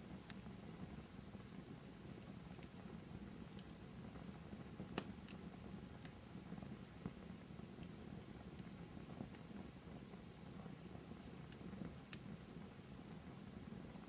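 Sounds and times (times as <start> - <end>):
fire crackling and popping: 0.0 - 14.0
fire low rumble: 0.0 - 14.0.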